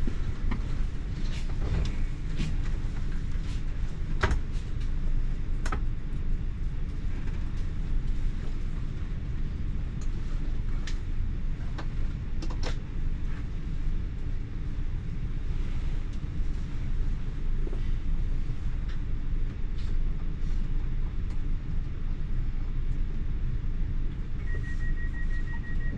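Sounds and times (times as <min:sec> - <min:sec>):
train running gear rumble: 0:00.0 - 0:25.9.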